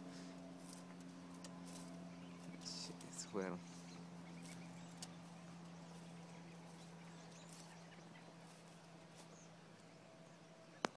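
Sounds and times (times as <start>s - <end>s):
distant bird chirps: 0.0s - 10.9s
faint low hum: 0.0s - 10.9s.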